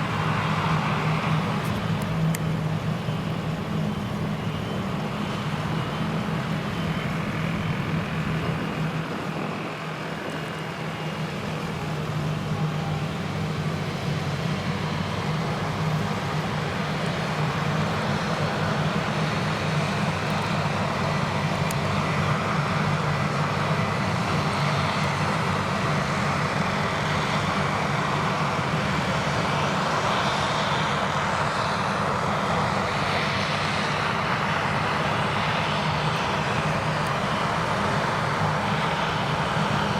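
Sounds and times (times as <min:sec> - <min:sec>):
harvester engine drone: 0:00.0 - 0:39.9.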